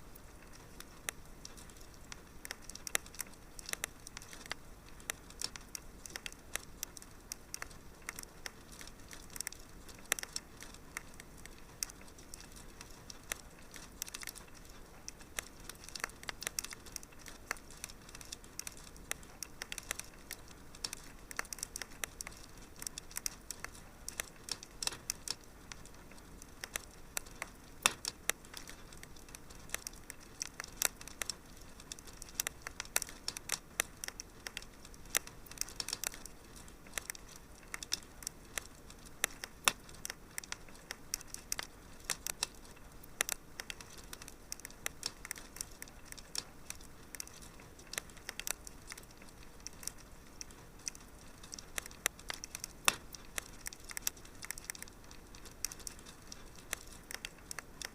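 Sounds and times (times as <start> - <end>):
faint steady hiss: 0.0 - 57.9
wood fire crackling: 0.0 - 57.9.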